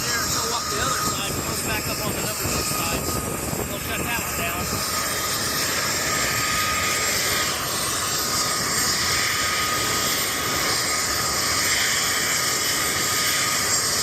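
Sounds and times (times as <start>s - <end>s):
helicopter turbine engines idling: 0.0s - 14.0s.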